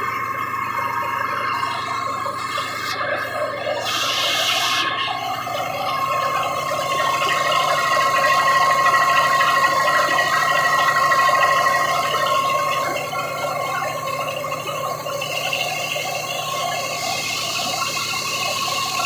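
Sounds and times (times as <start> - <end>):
diesel generator running: 0.0 - 19.0.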